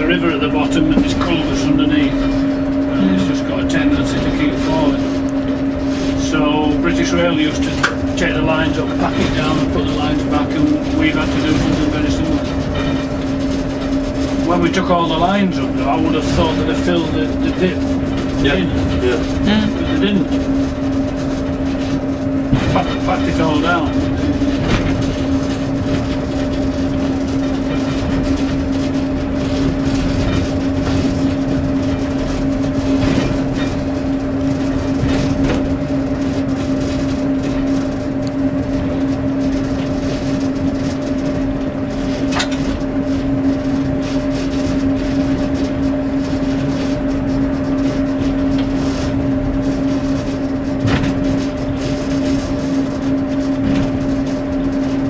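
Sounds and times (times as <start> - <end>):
droning diesel engine: 0.0 - 55.0
wheels rumbling on rails: 0.0 - 55.0.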